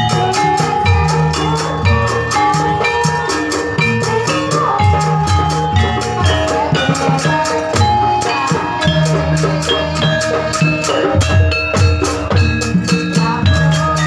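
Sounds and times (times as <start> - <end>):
fast drumbeat: 0.0 - 14.0
ringing metal percussion melody: 0.0 - 14.0.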